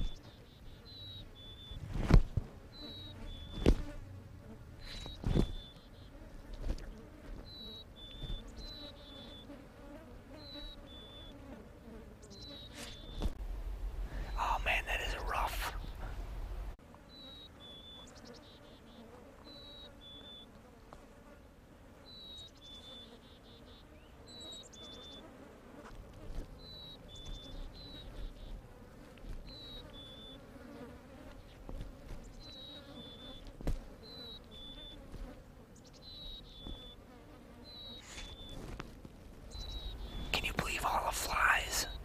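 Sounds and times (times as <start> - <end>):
flies buzzing: 0.0 - 42.0.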